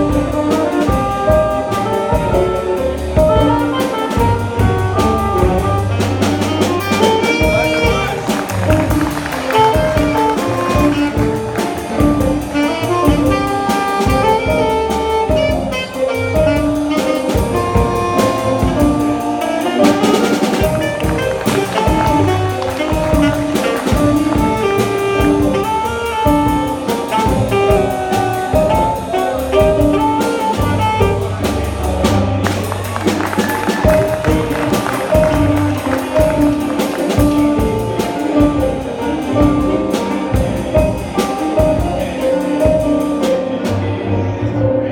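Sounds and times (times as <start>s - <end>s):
jazz band playing: 0.0s - 44.9s
saxophone: 0.0s - 44.9s.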